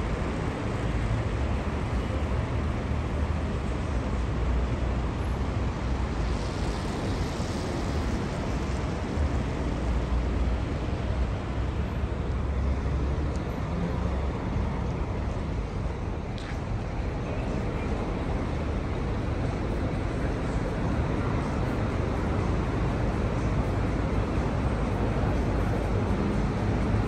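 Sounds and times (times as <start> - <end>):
city street traffic rumble: 0.0 - 27.0.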